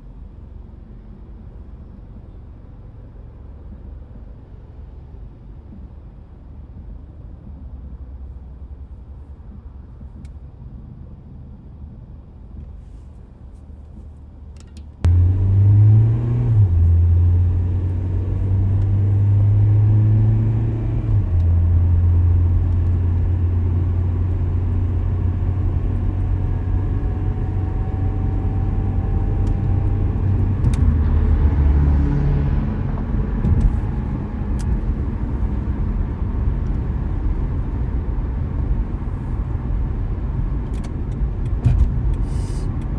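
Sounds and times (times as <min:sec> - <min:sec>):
car engine and tyres rumbling: 0:00.0 - 0:42.9.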